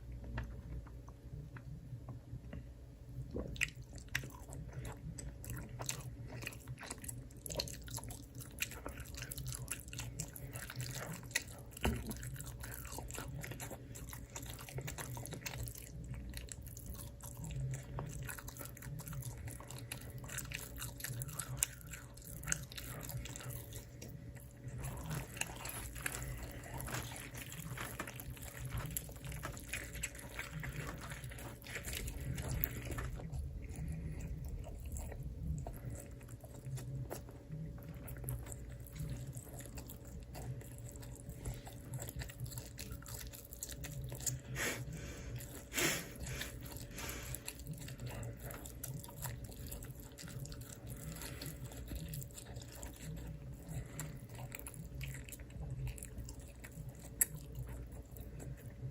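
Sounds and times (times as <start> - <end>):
steady low hum: 0.0 - 58.9
biting and chewing: 3.2 - 58.9.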